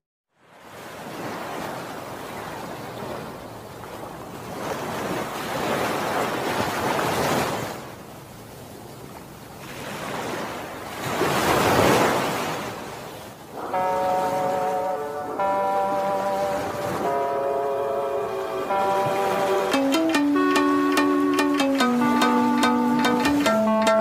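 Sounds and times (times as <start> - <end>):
sea waves breaking on shore: 0.4 - 24.0.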